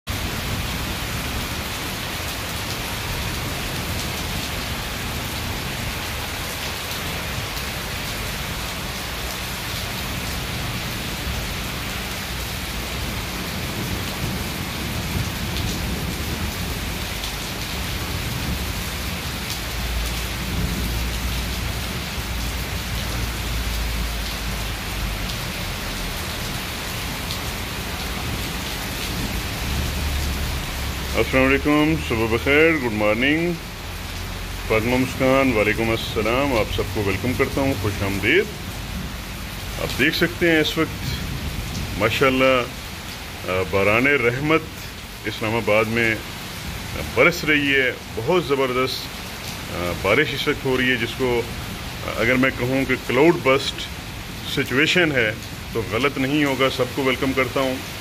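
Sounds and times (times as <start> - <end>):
heavy rain pouring on paving: 0.1 - 58.0.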